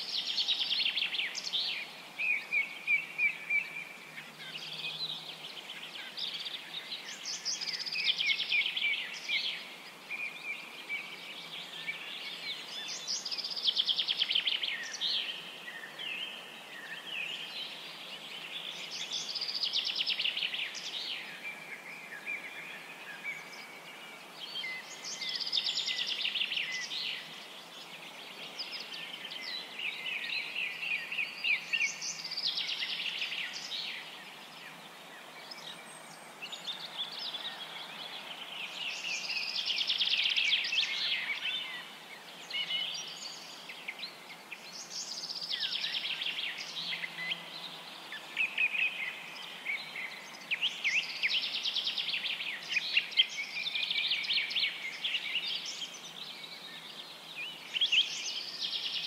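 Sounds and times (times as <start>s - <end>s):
faint steady hiss: 0.0s - 59.0s
songbirds chirping and twittering: 0.0s - 59.0s.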